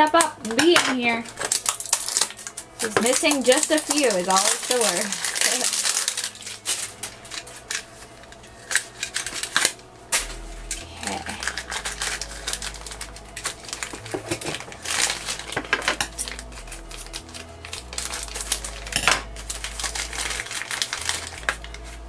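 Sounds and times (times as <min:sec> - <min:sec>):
plastic clicks and foil crinkles: 0:00.0 - 0:22.0.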